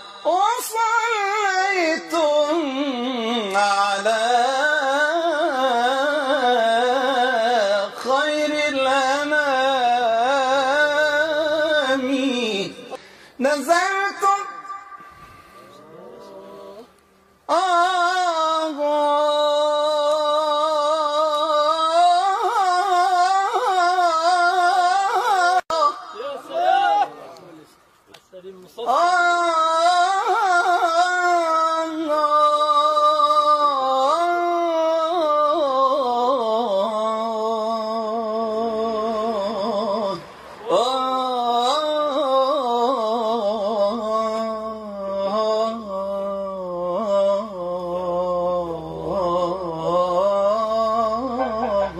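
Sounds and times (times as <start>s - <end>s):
man singing unaccompanied: 0.0s - 26.5s, 28.8s - 51.9s.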